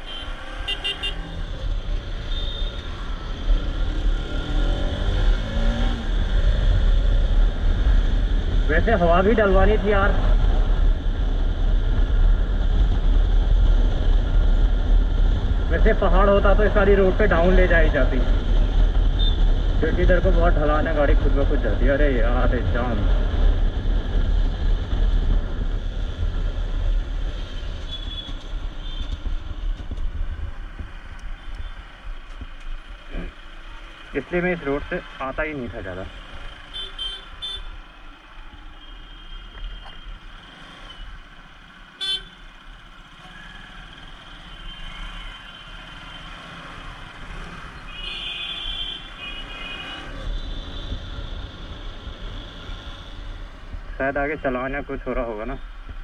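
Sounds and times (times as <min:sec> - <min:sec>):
motorcycle engine and road rumble: 0:00.0 - 0:56.0.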